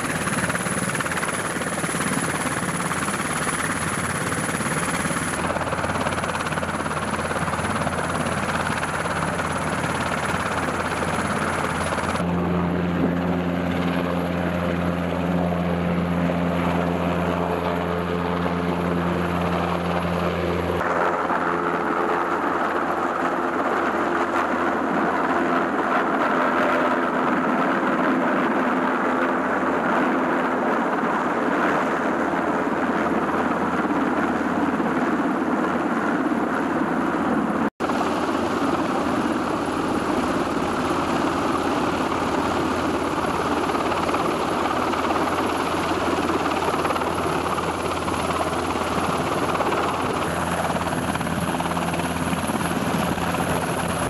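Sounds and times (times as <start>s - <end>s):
helicopter hovering rotor noise: 0.0s - 54.0s
helicopter rotor and turbine drone: 0.0s - 54.0s.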